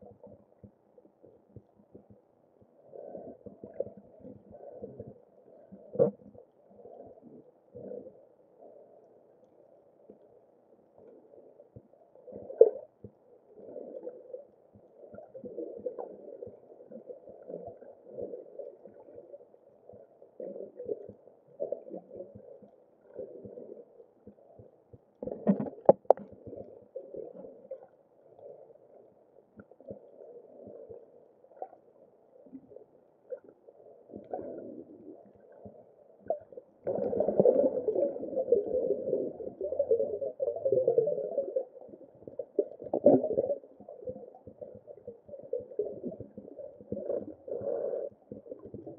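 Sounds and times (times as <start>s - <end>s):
underwater bubbles gurgling: 0.0s - 48.9s.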